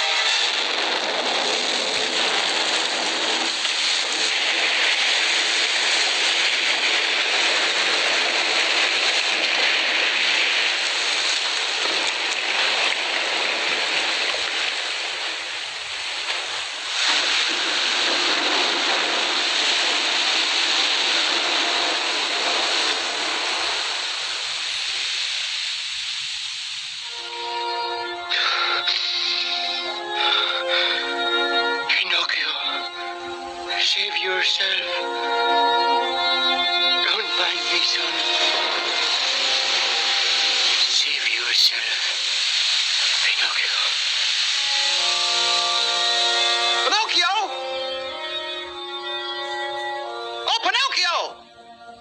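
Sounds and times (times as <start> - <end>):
rough sea waves and surf: 0.0 - 51.1.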